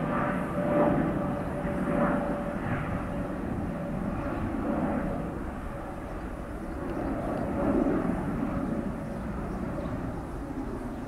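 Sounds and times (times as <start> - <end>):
distant jet engine rush: 0.0 - 11.0.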